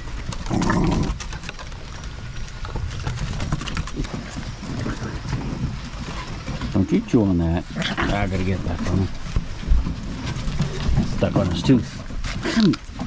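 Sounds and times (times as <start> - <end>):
paws clicking on wooden boards: 0.0 - 13.0.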